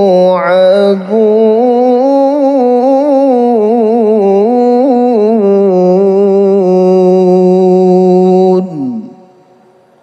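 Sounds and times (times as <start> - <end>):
man chanting melodically: 0.0 - 9.5.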